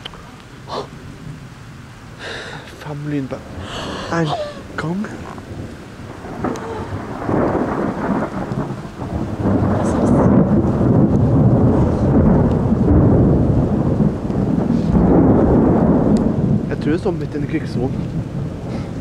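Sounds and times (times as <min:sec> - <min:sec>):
thunder rolling: 0:00.9 - 0:19.0.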